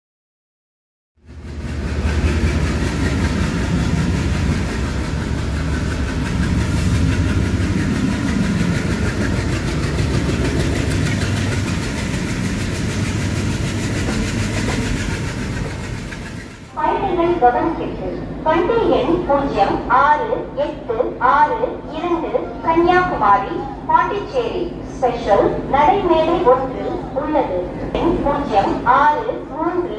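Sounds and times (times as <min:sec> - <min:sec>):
train rumbling on rails: 0:01.2 - 0:29.9.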